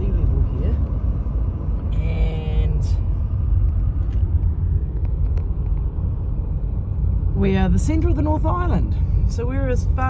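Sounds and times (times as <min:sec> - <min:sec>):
car interior road and engine noise: 0:00.0 - 0:10.0.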